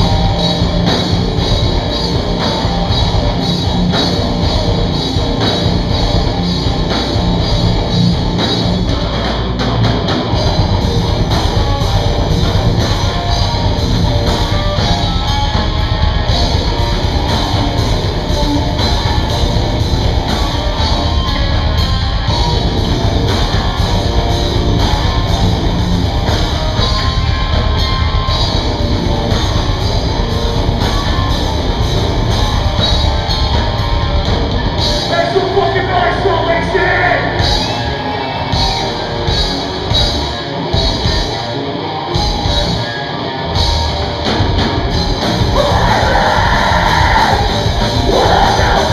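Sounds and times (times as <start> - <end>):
drum kit: 0.0 - 48.9
guitars: 0.0 - 48.9.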